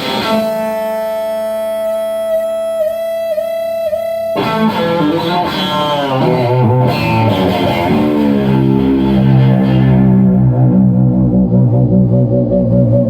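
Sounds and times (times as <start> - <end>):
electric guitar lead: 0.0 - 13.0.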